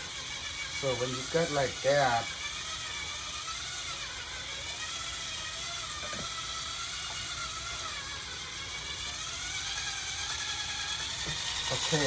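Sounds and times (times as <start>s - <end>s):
electric hand mixer whining: 0.0s - 12.0s.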